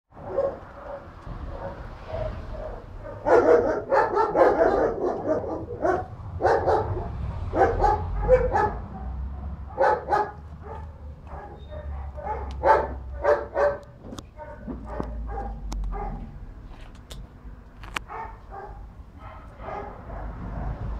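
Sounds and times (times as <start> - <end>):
dogs barking: 0.1 - 16.4, 18.0 - 20.9.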